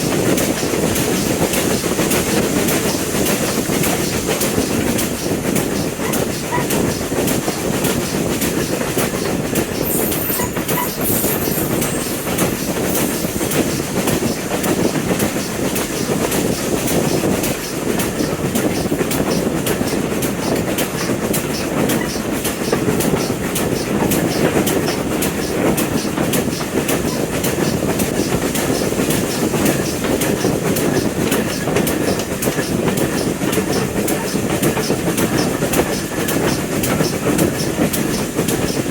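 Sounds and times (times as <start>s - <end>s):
train wheels clicking on rails: 0.0s - 38.9s.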